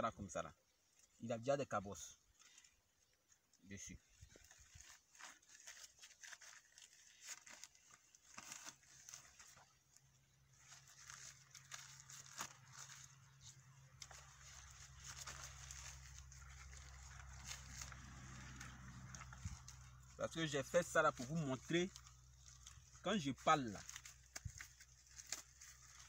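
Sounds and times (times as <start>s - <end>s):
crinkling and rustling: 2.1s - 26.0s.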